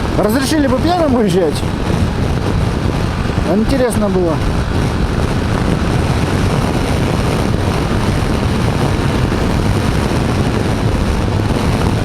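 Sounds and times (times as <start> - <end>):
motorcycle engine: 0.0 - 12.0
wind rush: 0.0 - 12.0.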